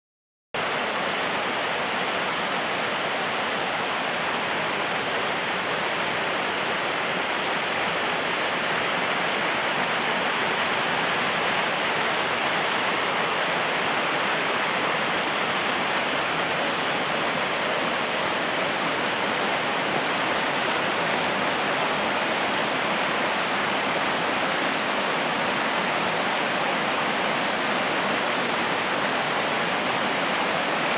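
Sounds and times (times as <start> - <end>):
waterfall rushing: 0.6 - 30.9.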